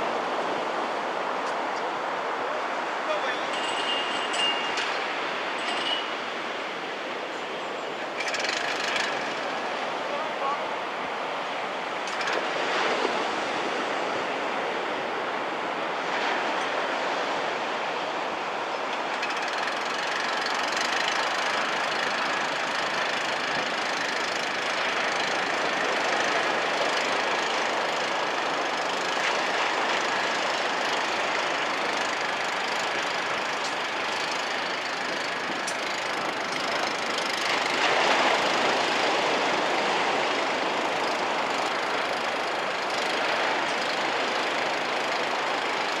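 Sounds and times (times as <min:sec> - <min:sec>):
waves breaking on sandy beach: 0:00.0 - 0:46.0.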